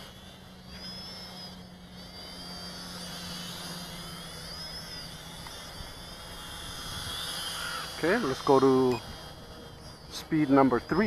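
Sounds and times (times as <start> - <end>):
drone propellers whining: 0.0 - 11.0
low hum: 0.0 - 11.0.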